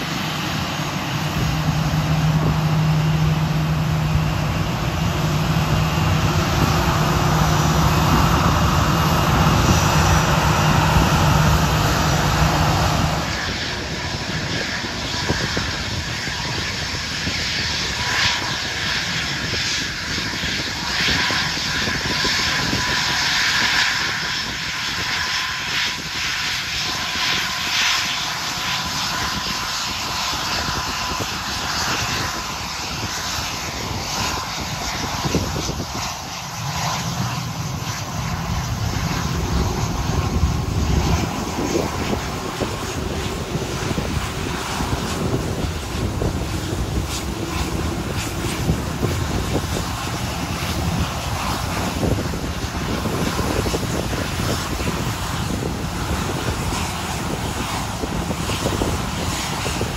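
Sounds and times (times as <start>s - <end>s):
jet engines roaring at taxi: 0.0s - 59.9s
jet engines whining: 0.0s - 59.9s.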